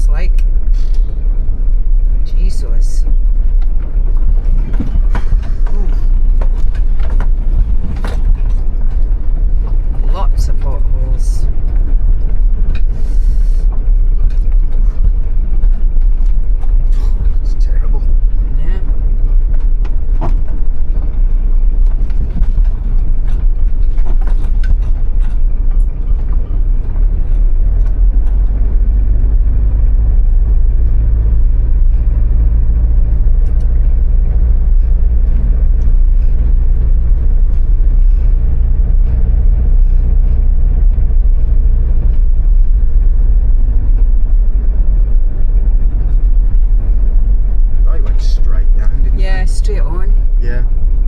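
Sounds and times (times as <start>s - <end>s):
vehicle engine low rumble: 0.0s - 51.0s.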